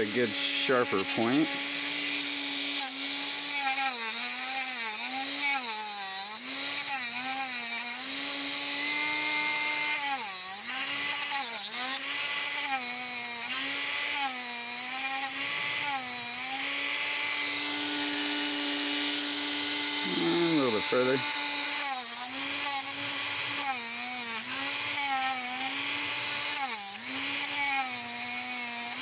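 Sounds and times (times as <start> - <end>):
gritty grinding hiss: 0.0 - 29.0
rotary tool motor whine: 0.0 - 29.0.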